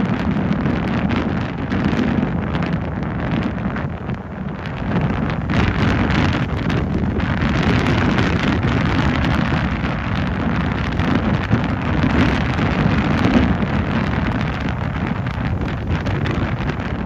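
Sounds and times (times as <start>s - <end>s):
loud wind buffeting microphone: 0.0s - 17.0s.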